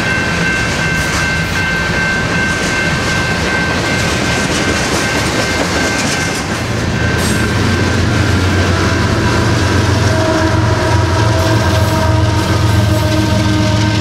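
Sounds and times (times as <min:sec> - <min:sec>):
diesel locomotive engines droning: 0:00.0 - 0:14.0
wheels rumbling on rail: 0:00.0 - 0:14.0.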